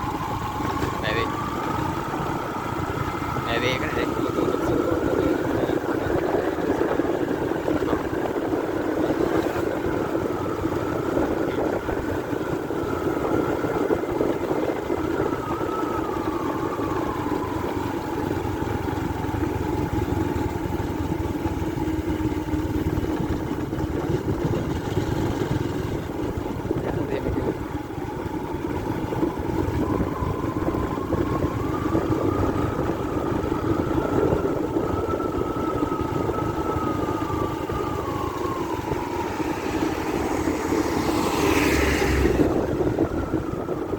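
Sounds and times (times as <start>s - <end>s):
motorcycle engine riding: 0.0s - 43.9s
wind and road noise: 0.0s - 43.9s.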